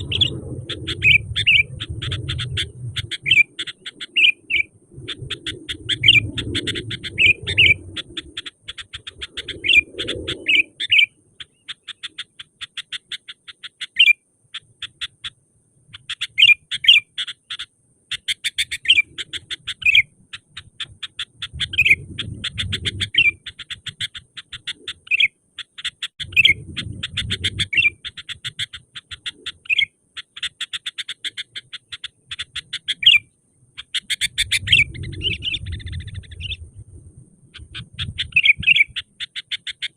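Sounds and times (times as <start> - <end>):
bird chirping calls: 0.0 - 39.9.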